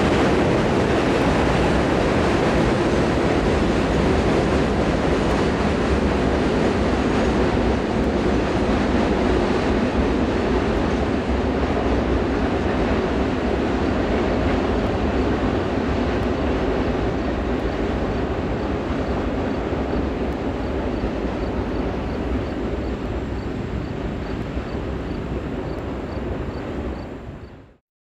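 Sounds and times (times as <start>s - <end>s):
train rolling by: 0.0s - 27.8s.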